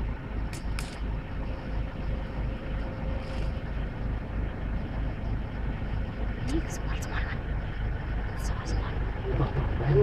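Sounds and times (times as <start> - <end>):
faint steady hum: 0.0 - 10.0
vehicle engine running: 0.0 - 10.0.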